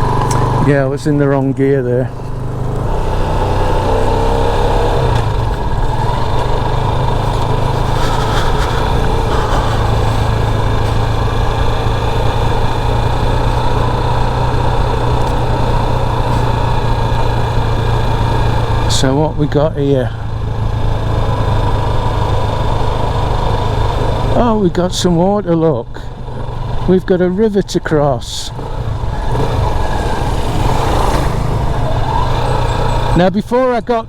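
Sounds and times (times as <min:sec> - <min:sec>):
motorcycle engine running: 0:00.0 - 0:33.8.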